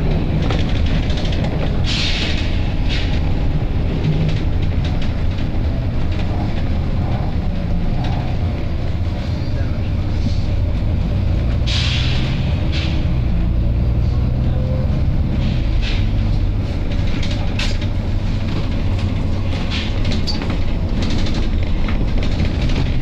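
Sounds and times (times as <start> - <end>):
diesel bus engine rumbling: 0.0 - 23.0.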